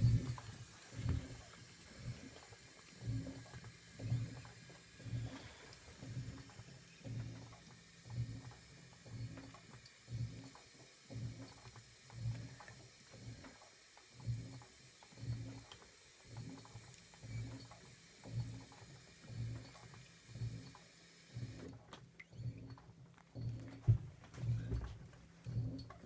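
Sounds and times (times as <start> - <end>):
washing machine motor humming: 0.0 - 26.0.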